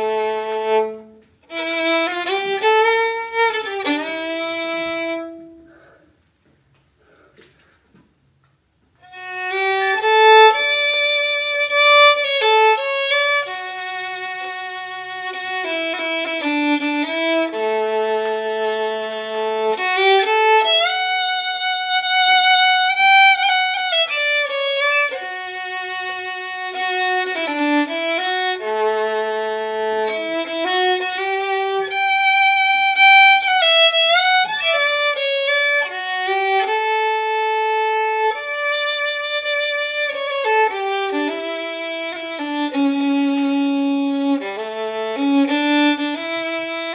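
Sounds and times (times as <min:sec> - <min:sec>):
slow violin melody: 0:00.0 - 0:06.0, 0:08.9 - 0:46.9.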